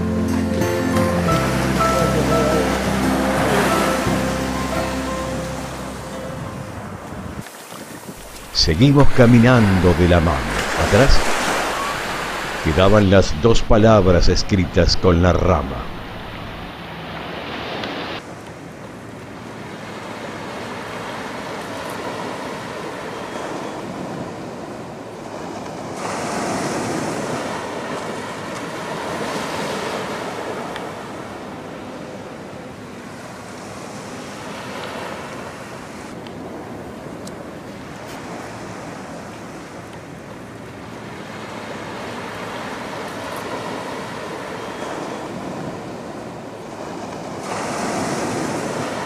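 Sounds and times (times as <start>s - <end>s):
small waves washing on sand: 7.0s - 49.0s.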